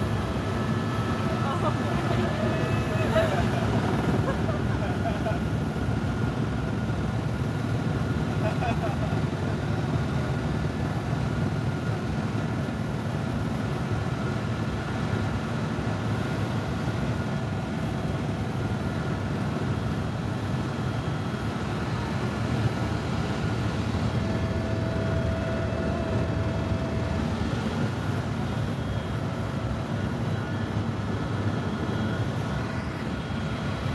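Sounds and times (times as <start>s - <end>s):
constant whine: 0.0s - 33.9s
helicopter rotor and engine noise: 0.0s - 33.9s.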